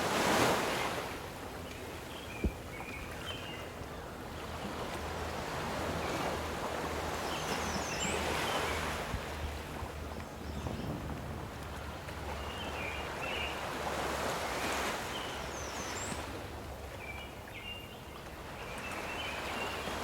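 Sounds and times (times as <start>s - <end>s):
waves washing onto shore: 0.0s - 17.6s.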